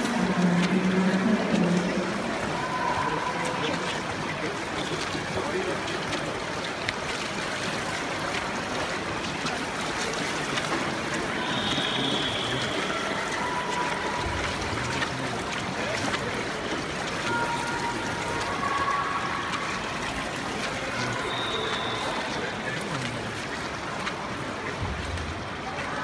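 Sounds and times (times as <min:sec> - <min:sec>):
underwater rushing water: 0:00.0 - 0:26.0.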